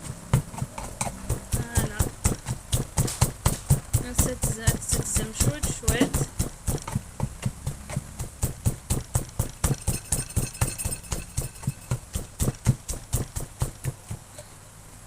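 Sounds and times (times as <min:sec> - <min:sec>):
pestle pounding in plastic mortar: 0:00.0 - 0:14.4.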